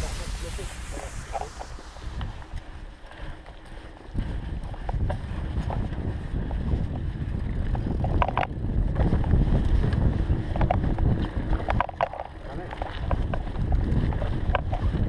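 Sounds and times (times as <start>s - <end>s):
bike tyres and frame rattling: 0.0s - 15.0s
wind noise on microphone: 0.0s - 15.0s.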